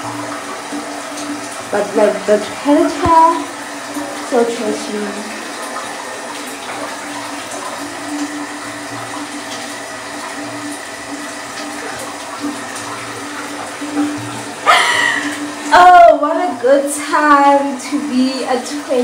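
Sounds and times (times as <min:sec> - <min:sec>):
running water hiss: 0:00.0 - 0:19.0.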